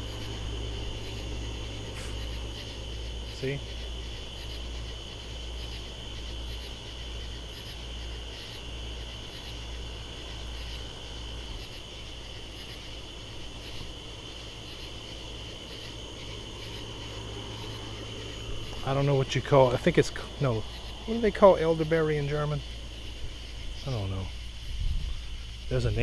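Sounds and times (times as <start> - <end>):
katydids calling: 0.0 - 26.0
steady low hum: 0.0 - 26.0.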